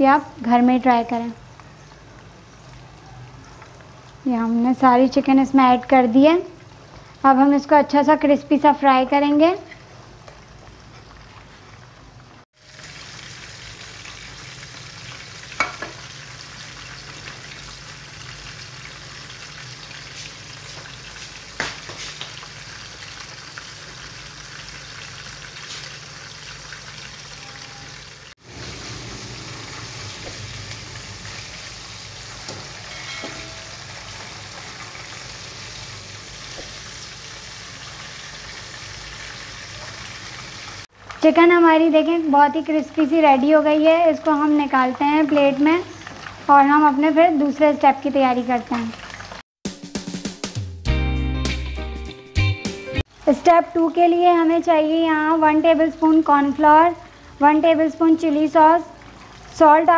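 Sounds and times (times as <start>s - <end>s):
chicken deep-frying in oil: 0.0s - 49.4s, 53.0s - 59.9s.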